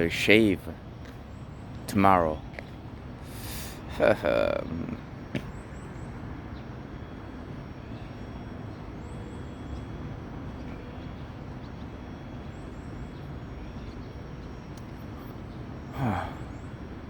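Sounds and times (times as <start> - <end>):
distant traffic rumble and hiss: 0.0 - 17.0
faint high chirps: 0.0 - 17.0.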